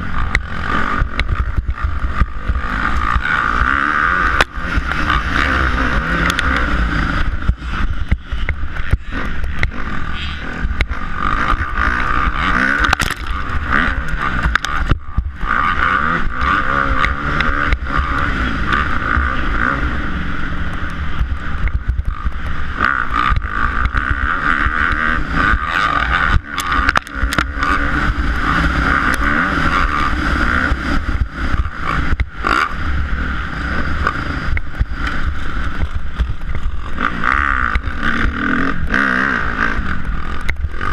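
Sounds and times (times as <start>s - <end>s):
dirt bike engine running hard: 0.0s - 40.9s.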